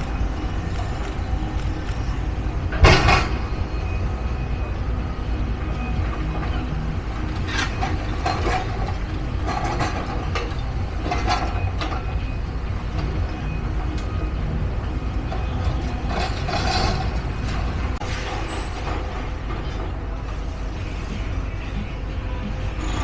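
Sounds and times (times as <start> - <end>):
heavy demolition machinery running: 0.0 - 23.0.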